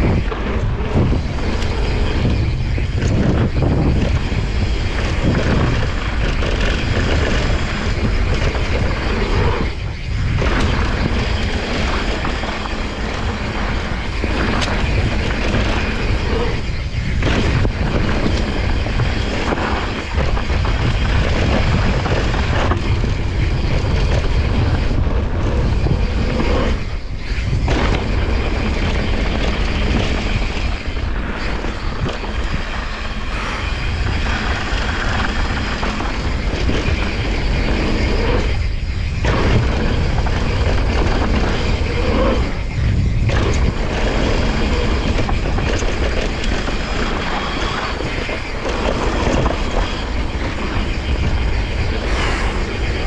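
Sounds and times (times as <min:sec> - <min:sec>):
mountain bike rolling on dirt trail: 0:00.0 - 0:53.0
wind on camera microphone: 0:00.0 - 0:53.0.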